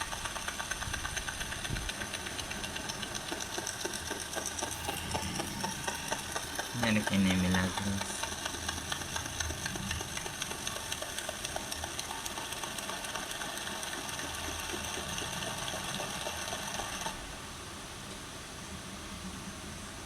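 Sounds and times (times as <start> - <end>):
mechanical buzz with rattling tick: 0.0 - 17.4.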